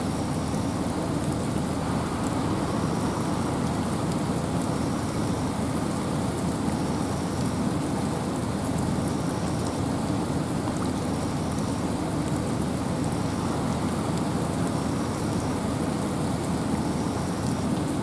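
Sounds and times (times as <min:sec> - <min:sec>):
steady rain: 0:00.0 - 0:18.0
wind: 0:00.0 - 0:18.0.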